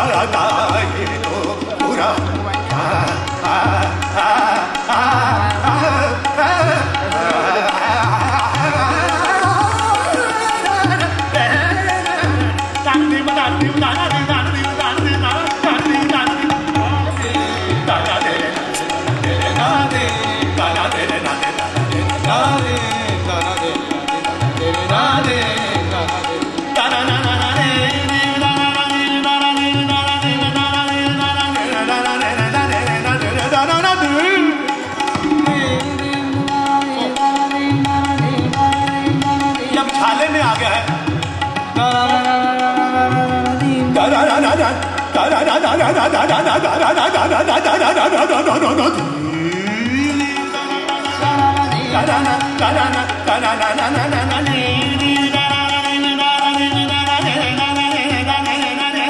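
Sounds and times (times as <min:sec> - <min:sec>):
harmonium: 0:00.0 - 0:59.0
man singing classical vocals: 0:00.0 - 0:59.0
tabla strokes: 0:00.0 - 0:59.0.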